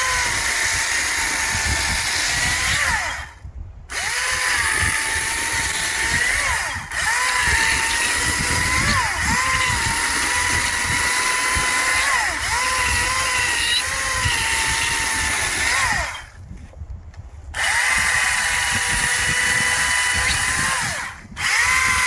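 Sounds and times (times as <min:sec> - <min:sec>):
battery chainsaw whining: 0:00.0 - 0:16.4, 0:17.6 - 0:22.0.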